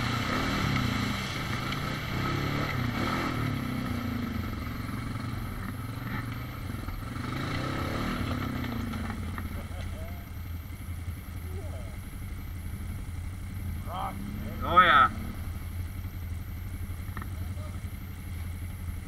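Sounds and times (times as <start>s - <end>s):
quad bike engine revving: 0.0s - 18.1s.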